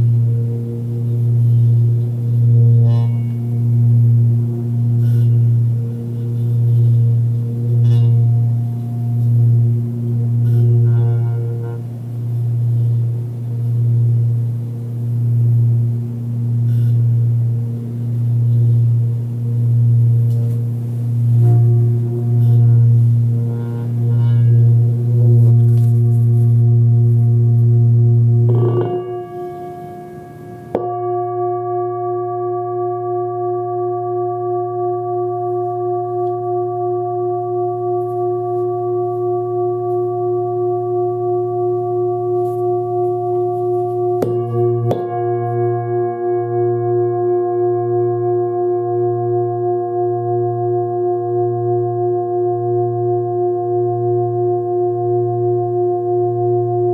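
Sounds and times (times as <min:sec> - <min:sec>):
singing bowl ringing: 0:00.0 - 0:56.9.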